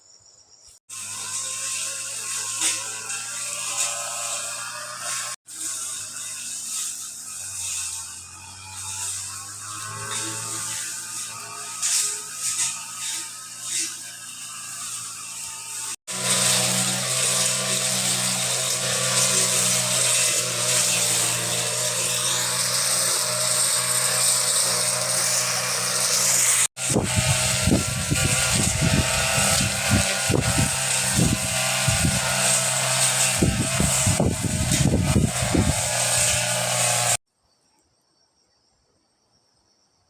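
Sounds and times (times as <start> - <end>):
small motor running: 0.9 - 37.2.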